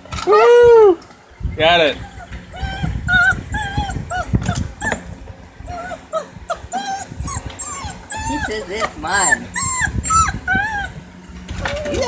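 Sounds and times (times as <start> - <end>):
puppies yipping and whining: 1.6 - 12.0.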